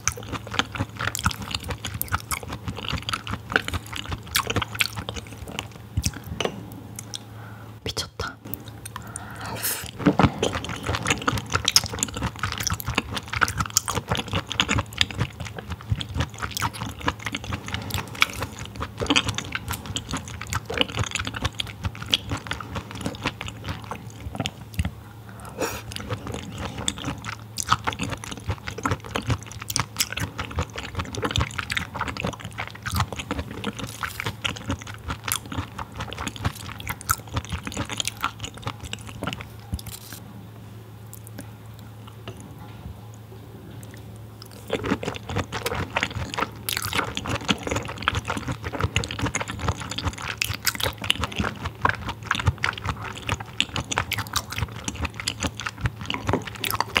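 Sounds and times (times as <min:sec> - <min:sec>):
wet chewing mouth sounds: 0:00.0 - 0:07.3, 0:07.9 - 0:40.2, 0:43.7 - 0:57.0.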